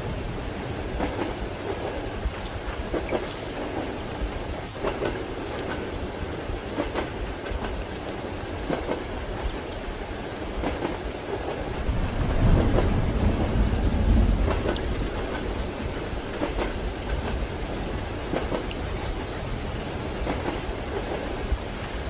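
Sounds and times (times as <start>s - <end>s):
steady rain: 0.0s - 22.0s
train wheels clacking over rail joints: 0.9s - 9.7s, 10.5s - 19.4s, 20.0s - 21.6s.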